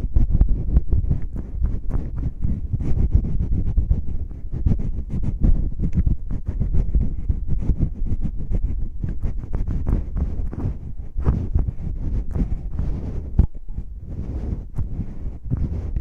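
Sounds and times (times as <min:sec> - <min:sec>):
fingertips scratching microphone: 0:00.0 - 0:16.0.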